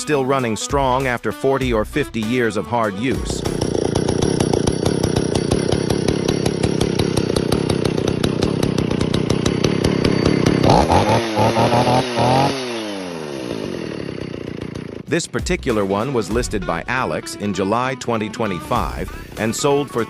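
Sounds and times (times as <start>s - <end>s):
chainsaw engine revving: 1.9s - 20.0s.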